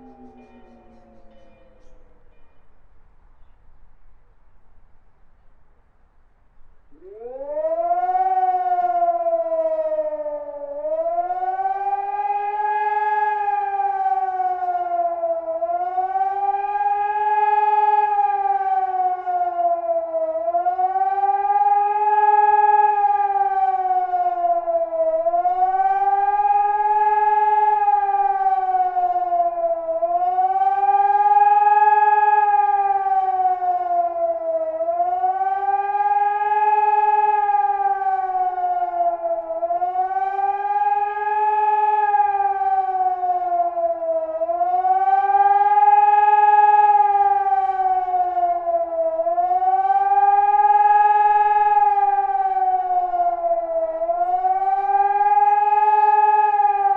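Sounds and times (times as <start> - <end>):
civil defence siren howling: 0.0 - 5.5, 6.5 - 56.9.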